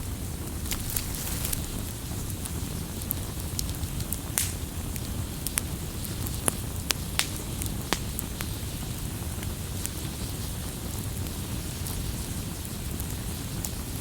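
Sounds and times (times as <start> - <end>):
burning wood popping and snapping: 0.0 - 12.0
flames rumbling: 0.0 - 14.0.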